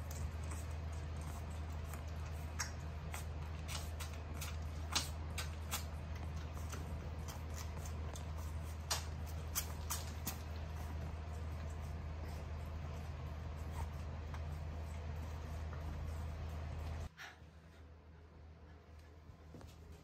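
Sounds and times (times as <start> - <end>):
puppies suckling wet smacking: 0.0 - 17.1
steady low hum: 0.0 - 20.0.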